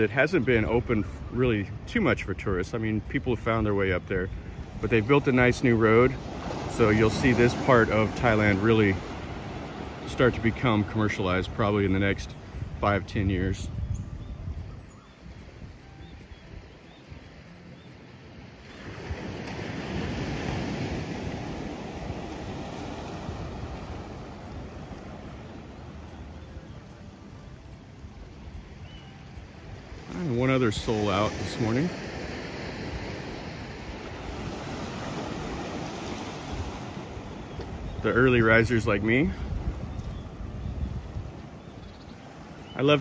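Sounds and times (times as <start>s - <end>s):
sea waves washing onto beach: 0.0s - 13.8s, 15.2s - 43.0s.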